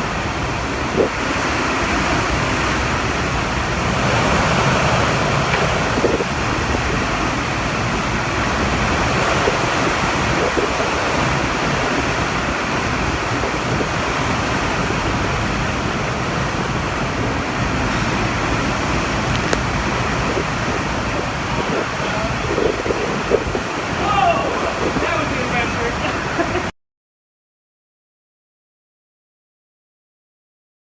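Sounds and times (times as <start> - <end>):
strong wind blowing: 0.0 - 26.7
surf: 0.0 - 26.7
wind buffeting microphone: 0.0 - 26.7.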